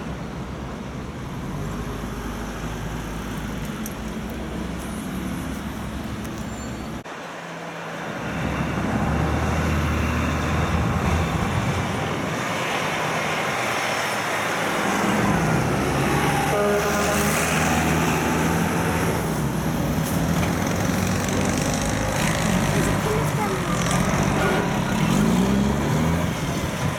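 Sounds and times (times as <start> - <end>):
truck diesel engine under load: 0.0 - 7.1, 8.1 - 26.9
road traffic noise: 0.0 - 26.9.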